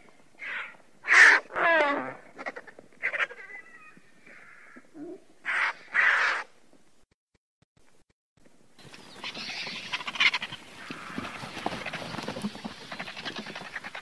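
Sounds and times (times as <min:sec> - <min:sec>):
vultures calling: 0:00.4 - 0:06.6, 0:08.8 - 0:14.0.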